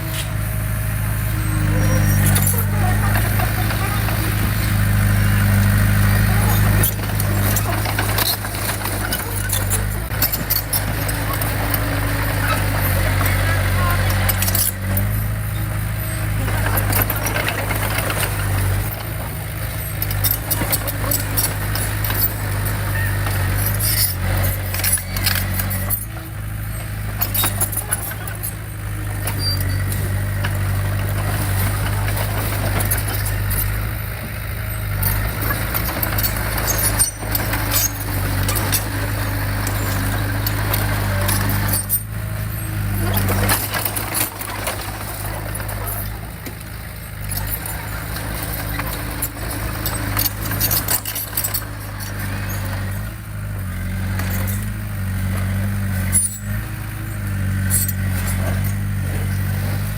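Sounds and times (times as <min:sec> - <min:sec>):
diesel engine under load: 0:00.0 - 0:59.9
metallic clanks and rattles: 0:01.7 - 0:59.9.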